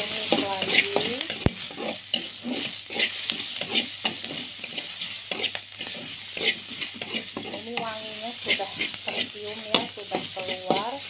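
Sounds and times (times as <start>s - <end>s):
metal spatula scraping wok: 0.0s - 11.0s
onions sizzling in oil: 0.0s - 11.0s.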